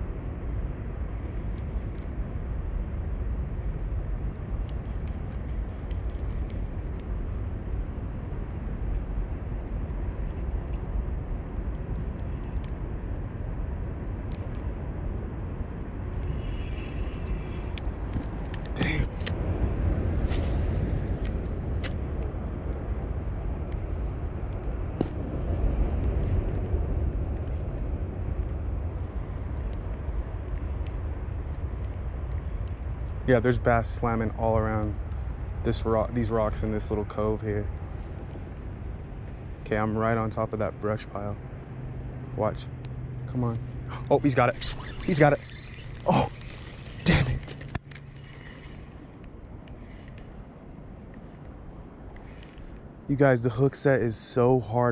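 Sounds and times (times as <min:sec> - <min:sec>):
wind buffeting microphone: 0:00.0 - 0:54.2.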